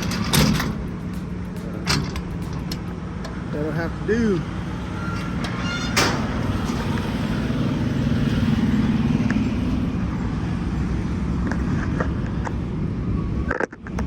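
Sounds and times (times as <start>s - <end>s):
diesel truck engine idling: 0.0s - 11.4s.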